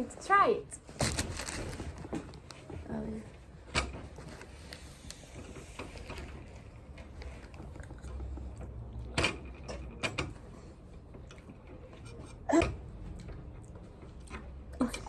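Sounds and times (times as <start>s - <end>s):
low room rumble: 0.0s - 15.0s.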